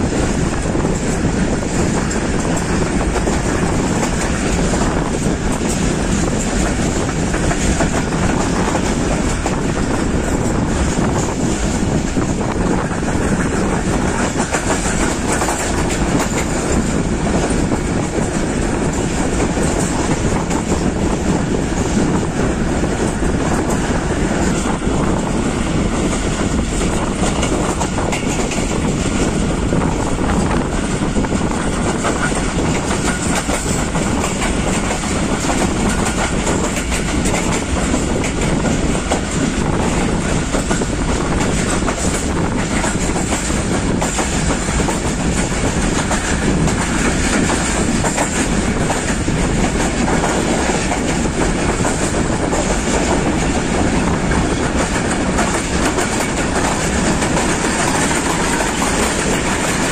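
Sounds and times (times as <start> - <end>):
clickety-clack of rail joints: 0.0 - 59.9
train wheels rumbling on track: 0.0 - 59.9.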